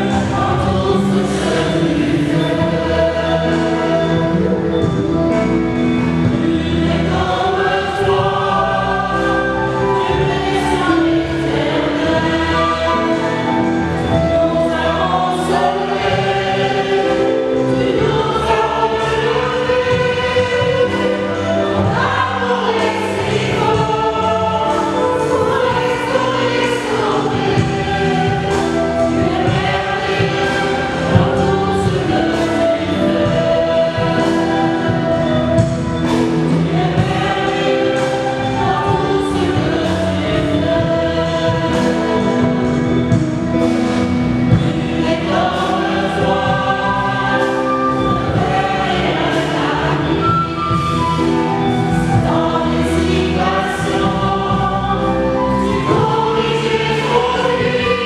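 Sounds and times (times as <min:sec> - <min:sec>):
church choir singing a hymn: 0:00.0 - 0:58.0
instrumental accompaniment: 0:00.0 - 0:58.0.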